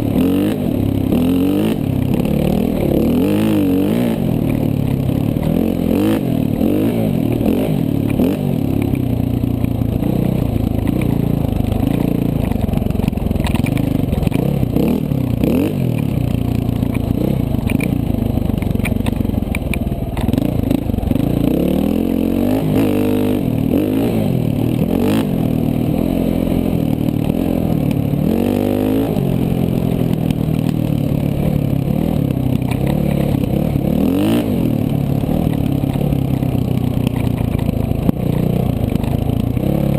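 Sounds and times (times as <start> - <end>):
dirt bike engine revving: 0.0 - 18.5, 20.2 - 39.9.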